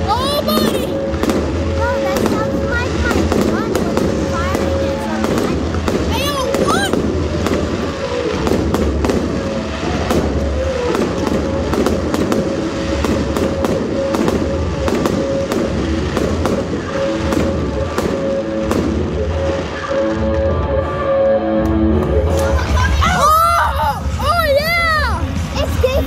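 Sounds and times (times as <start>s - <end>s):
fireworks banging and crackling: 0.0s - 23.4s
music playing: 0.0s - 26.0s.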